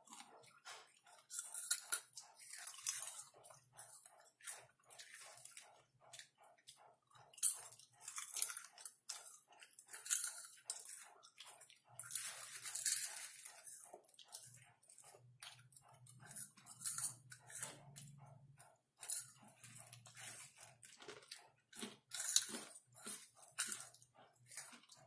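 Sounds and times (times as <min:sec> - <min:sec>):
chewing popcorn: 0:00.0 - 0:25.0.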